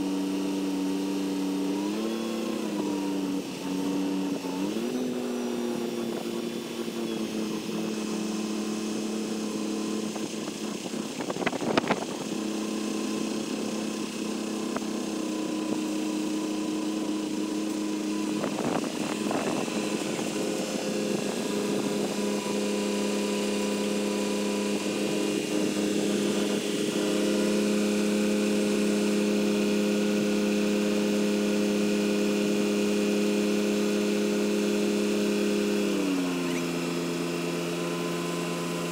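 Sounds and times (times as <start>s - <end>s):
crane engine running: 0.0s - 38.9s.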